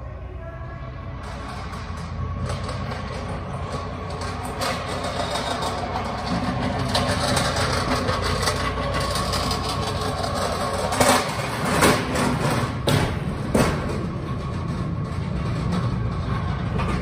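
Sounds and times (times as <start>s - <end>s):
pallet jack rattling on concrete: 1.2s - 17.0s.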